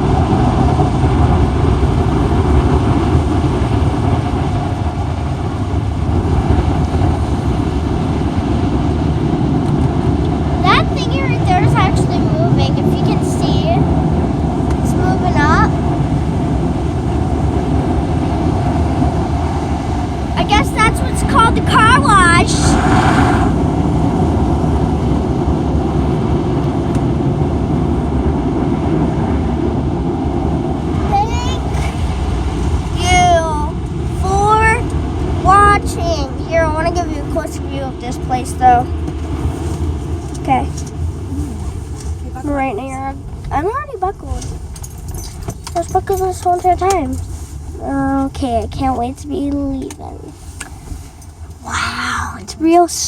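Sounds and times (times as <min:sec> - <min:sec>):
air dryer blowers rushing: 0:00.0 - 0:47.8
car wash rumble: 0:00.0 - 0:53.0.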